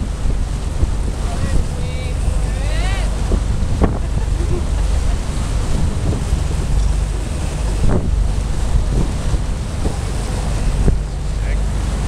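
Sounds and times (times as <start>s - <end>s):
boat engine rumble: 0.0s - 12.0s
rush of sea water: 0.0s - 12.0s
wind buffeting microphone: 0.0s - 12.0s.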